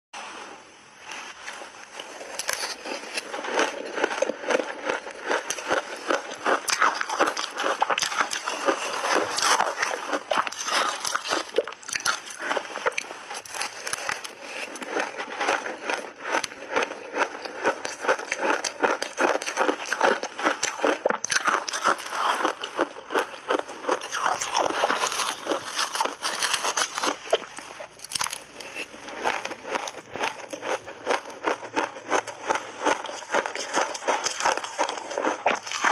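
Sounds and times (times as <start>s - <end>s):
chewing crunchy shaved ice: 1.9s - 35.9s.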